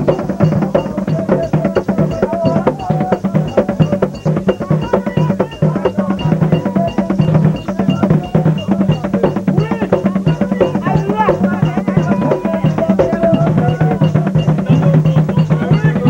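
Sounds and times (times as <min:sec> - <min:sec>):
hand drums beating fast rhythm: 0:00.0 - 0:16.0
voices singing: 0:00.0 - 0:16.0.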